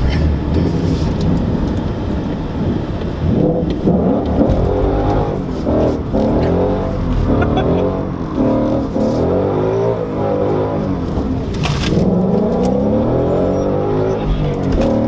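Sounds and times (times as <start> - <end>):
car engine revving: 0.0 - 15.0
road noise inside car: 0.0 - 15.0.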